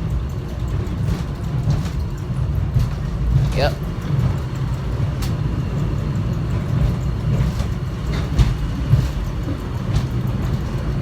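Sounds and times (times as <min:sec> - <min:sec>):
train car knocks and rattles: 0:00.0 - 0:11.0
train running low rumble: 0:00.0 - 0:11.0.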